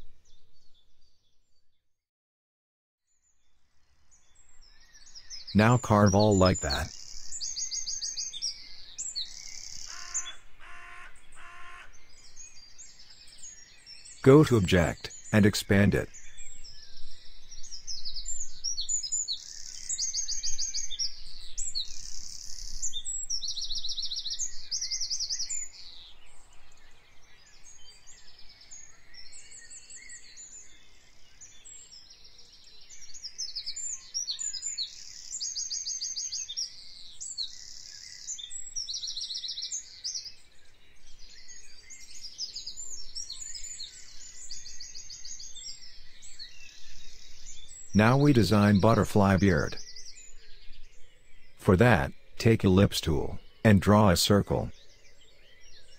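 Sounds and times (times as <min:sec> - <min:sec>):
small birds singing: 0:00.0 - 0:01.8, 0:03.1 - 0:55.9.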